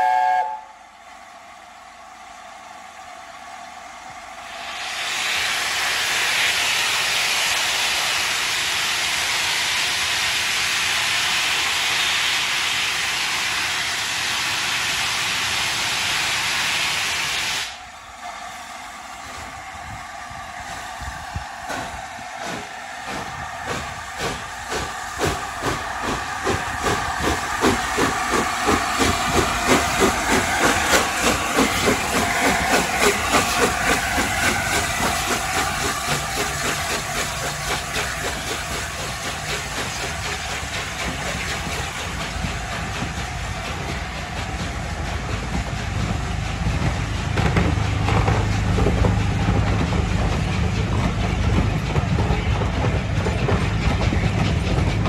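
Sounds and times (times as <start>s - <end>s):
steam locomotive exhaust beats: 0.0s - 55.0s
steam hissing: 4.3s - 55.0s.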